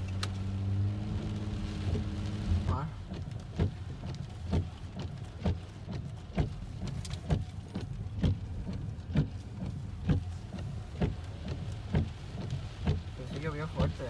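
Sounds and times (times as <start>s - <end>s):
low hum of car: 0.0s - 14.0s
windshield wipers knocking: 1.6s - 14.0s.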